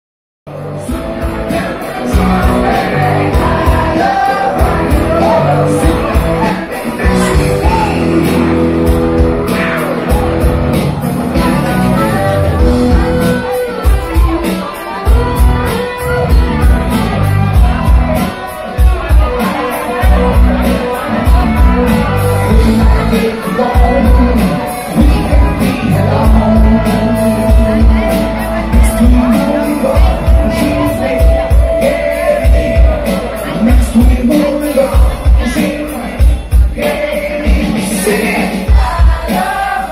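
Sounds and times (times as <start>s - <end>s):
live band through speakers: 0.5s - 39.9s
person singing: 0.5s - 39.9s
steady drumbeat: 0.8s - 39.9s.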